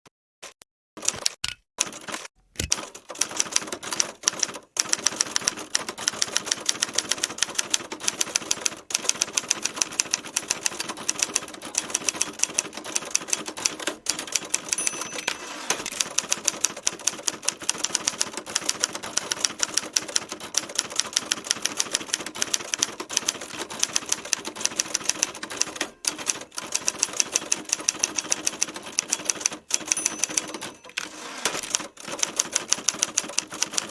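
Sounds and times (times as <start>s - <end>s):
manual typewriter typing: 0.4s - 33.9s.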